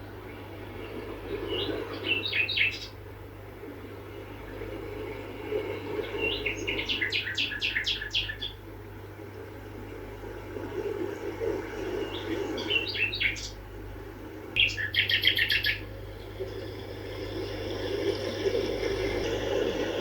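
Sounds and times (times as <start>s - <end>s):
songbirds chirping: 0.0s - 16.9s
low background hum: 0.0s - 20.0s.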